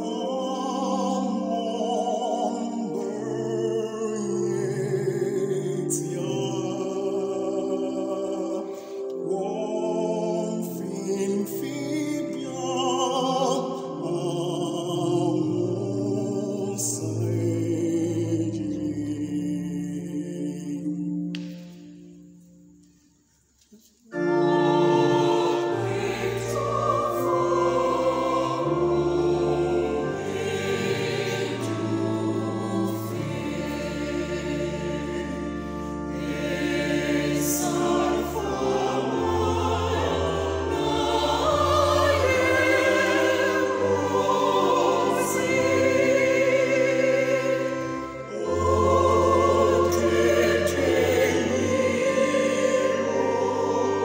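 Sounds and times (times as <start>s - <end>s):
choir singing a hymn: 0.0s - 22.8s, 24.1s - 54.0s.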